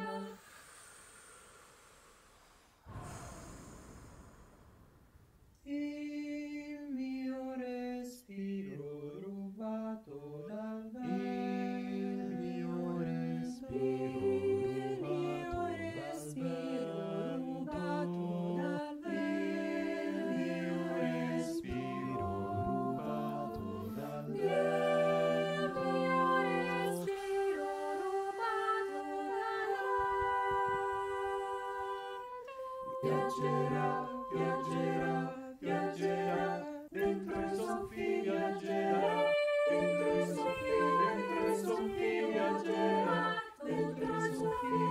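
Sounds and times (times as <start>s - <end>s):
choir singing a cappella: 0.0s - 4.9s, 5.6s - 44.9s.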